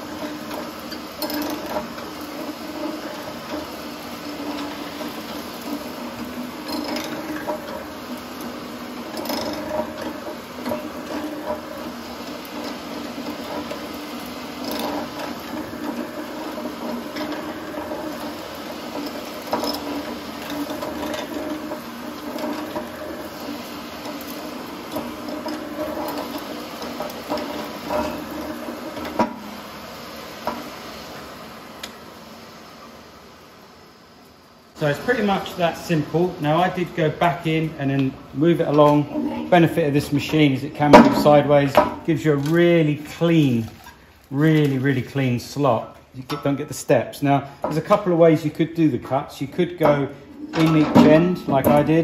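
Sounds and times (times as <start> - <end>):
mortiser running: 0.0 - 33.2, 34.8 - 52.0.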